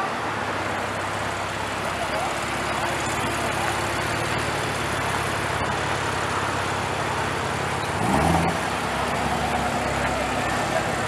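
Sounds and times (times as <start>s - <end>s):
car engine rumbling and revving: 0.0s - 11.0s
street noise: 0.0s - 11.0s.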